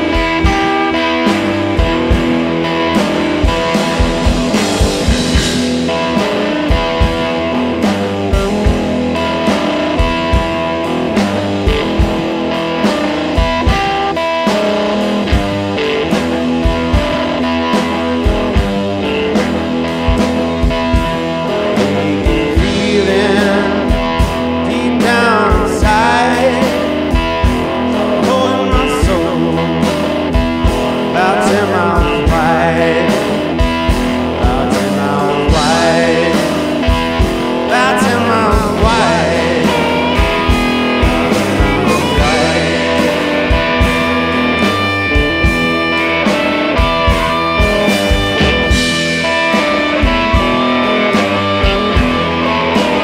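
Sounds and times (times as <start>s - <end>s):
electric guitar: 0.0s - 53.0s
steady drum beat: 0.0s - 53.0s.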